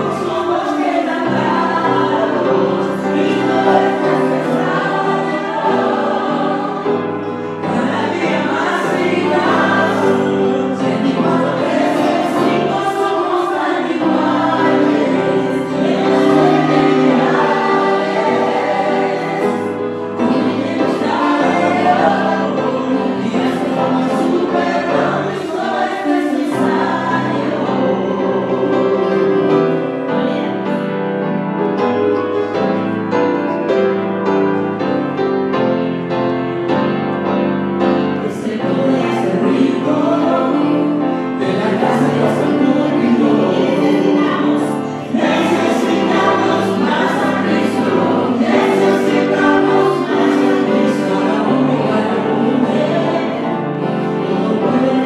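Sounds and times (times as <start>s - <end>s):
group singing gospel song: 0.0s - 35.1s, 37.0s - 55.0s.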